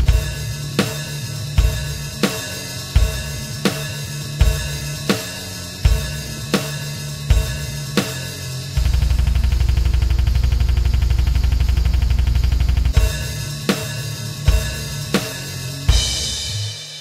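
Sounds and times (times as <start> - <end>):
distorted guitar and bass: 0.0 - 16.7
cymbal crashes: 0.0 - 17.0
programmed drums: 0.0 - 17.0.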